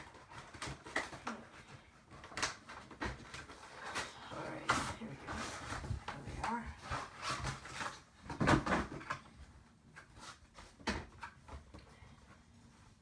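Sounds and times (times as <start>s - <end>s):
packaging knocks and rustling: 0.0s - 11.7s.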